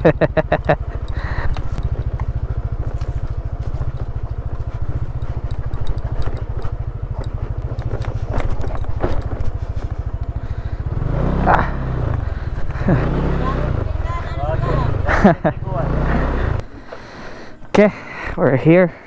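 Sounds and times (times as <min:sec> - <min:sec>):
scooter engine running: 0:00.0 - 0:19.0.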